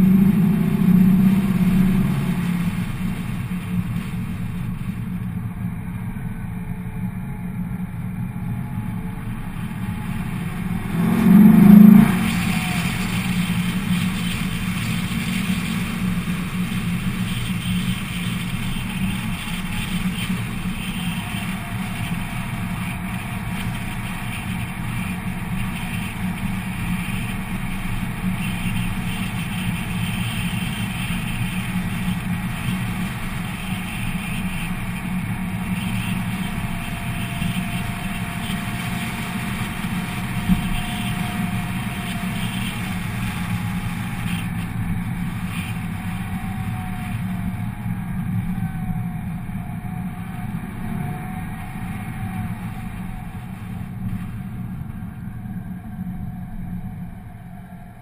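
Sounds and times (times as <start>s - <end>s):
car engine cruising: 0.0s - 58.0s.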